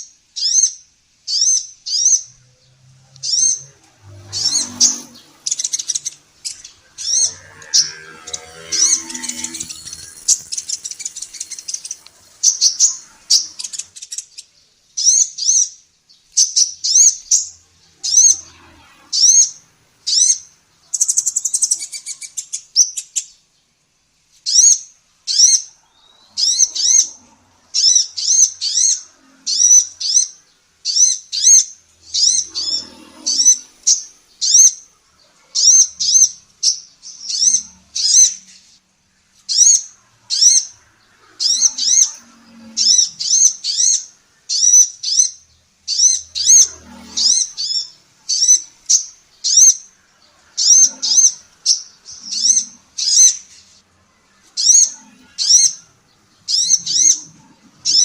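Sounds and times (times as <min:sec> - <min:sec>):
bird chirping and trilling: 0:00.0 - 0:23.4, 0:24.4 - 0:58.0.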